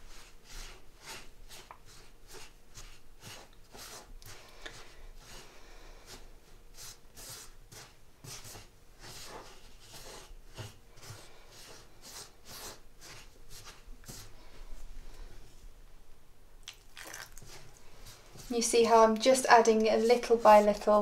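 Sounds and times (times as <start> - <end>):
fingers rubbing dough in a bowl: 0.0 - 14.4, 17.4 - 21.0.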